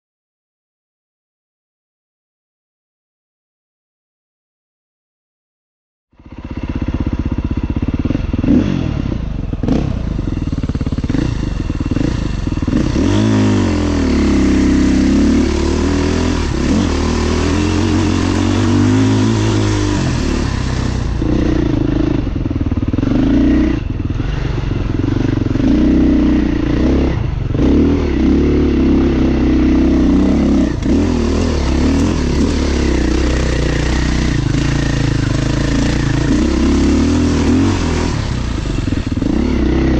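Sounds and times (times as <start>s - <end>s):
dirt bike engine revving: 6.2s - 39.9s.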